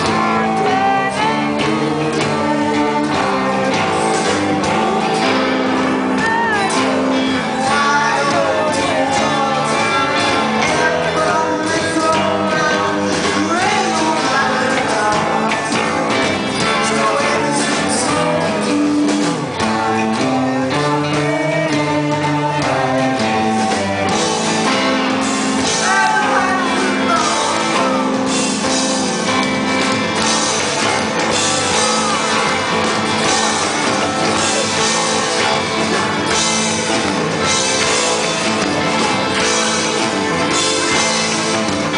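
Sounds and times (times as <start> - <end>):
man singing: 0.0 - 29.5, 30.8 - 41.9
drums: 0.0 - 41.9
electric guitar: 0.0 - 41.9
strummed acoustic guitar: 0.0 - 41.9.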